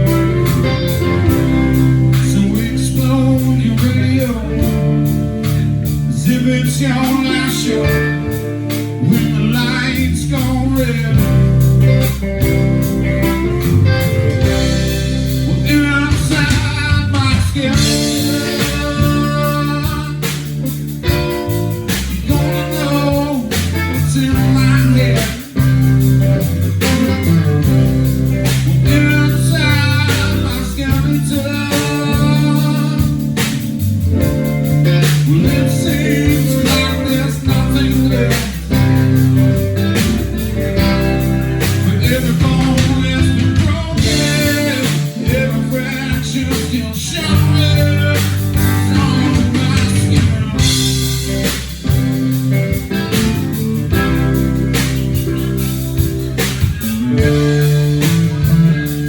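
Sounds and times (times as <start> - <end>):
blues-rock band playing: 0.0 - 59.0
electric guitar lead line bending: 0.0 - 59.0.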